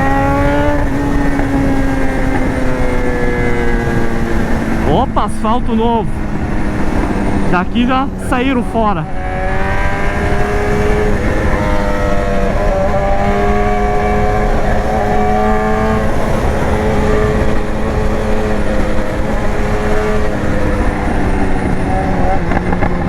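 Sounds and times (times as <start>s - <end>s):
motorcycle engine running: 0.0s - 23.0s
wind and road rush: 0.0s - 23.0s.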